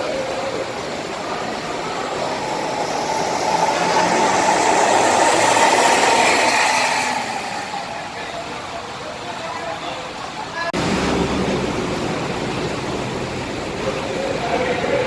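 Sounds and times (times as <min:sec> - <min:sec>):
bus engine passing: 0:00.0 - 0:09.4, 0:10.2 - 0:15.0.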